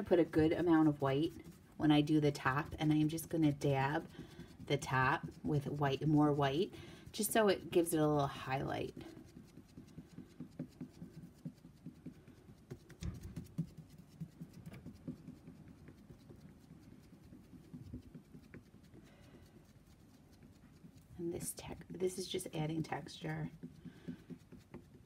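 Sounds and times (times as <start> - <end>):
sponge brush dabbing paint: 0.0 - 25.0.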